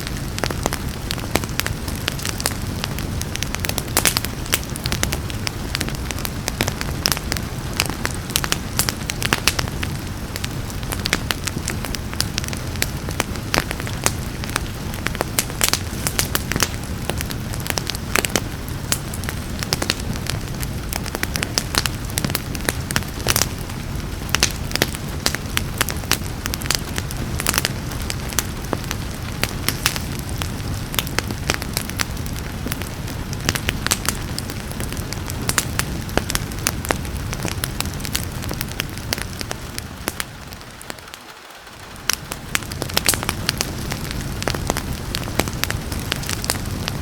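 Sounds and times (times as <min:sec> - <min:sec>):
soft hiss of rain: 0:00.0 - 0:47.0
wood fire crackling and popping: 0:00.0 - 0:47.0.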